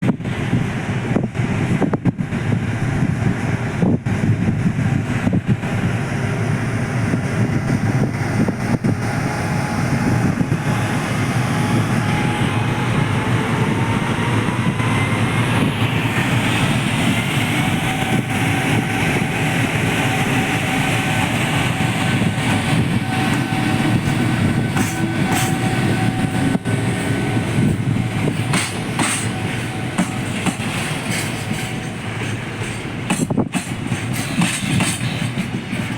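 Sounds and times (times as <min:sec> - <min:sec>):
freight train wheels on rails: 0:00.0 - 0:35.9.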